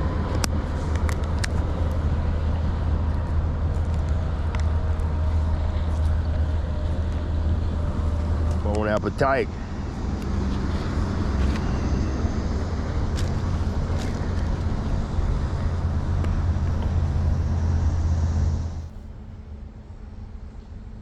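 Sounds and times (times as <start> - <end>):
engine low hum: 0.0 - 21.0.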